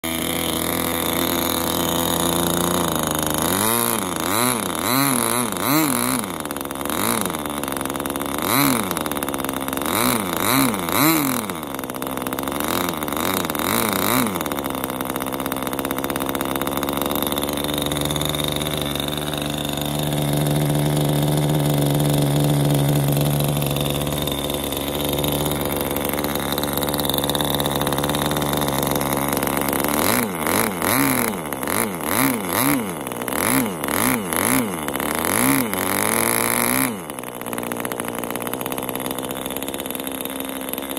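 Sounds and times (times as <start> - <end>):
model engine revving: 0.0 - 40.9.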